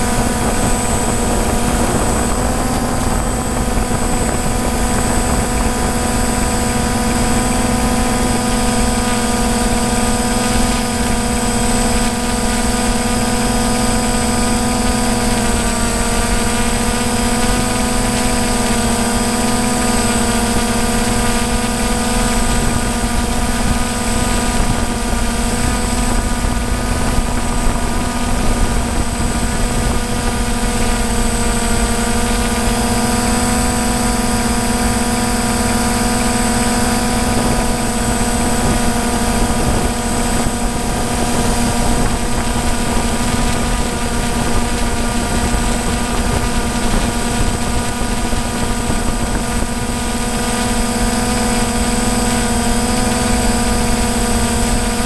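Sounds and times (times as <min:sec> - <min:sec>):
drone propellers humming: 0:00.0 - 0:55.0
high whine: 0:00.0 - 0:55.0.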